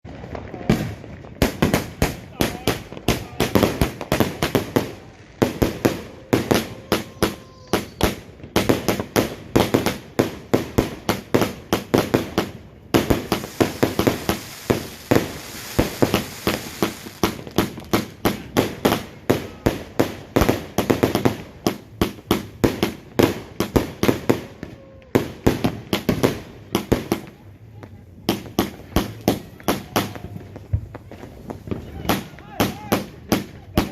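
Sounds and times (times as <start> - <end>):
firework crackling: 0.0 - 33.9.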